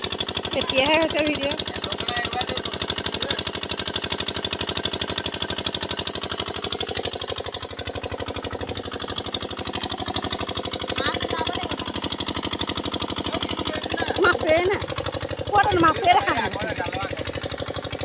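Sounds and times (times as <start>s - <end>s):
small engine thumping: 0.0s - 18.0s.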